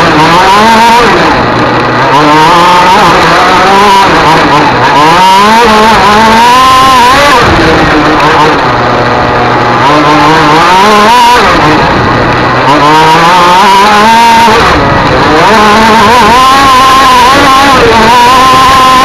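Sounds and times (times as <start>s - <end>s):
racing engine revving: 0.0s - 19.0s.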